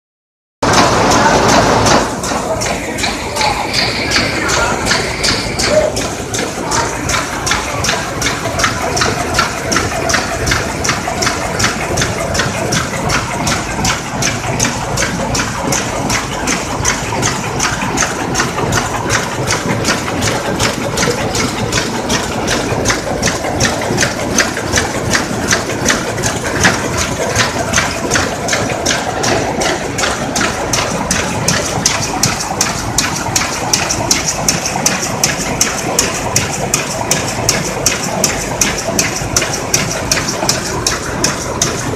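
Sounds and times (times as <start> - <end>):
sharp loom beats: 0.6 - 41.9
weaving loom running: 0.6 - 41.9.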